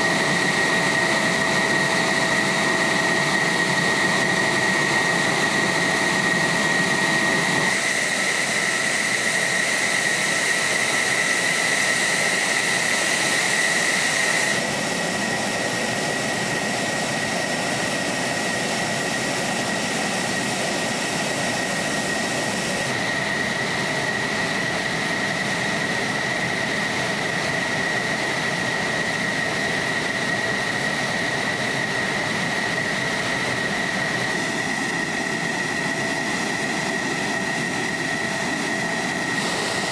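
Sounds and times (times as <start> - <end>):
jet engine running: 0.0 - 39.9.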